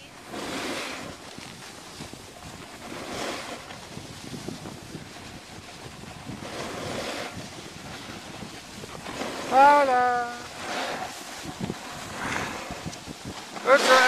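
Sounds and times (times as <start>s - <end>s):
skis hissing over snow: 0.0s - 14.0s
wind on microphone: 0.0s - 14.0s.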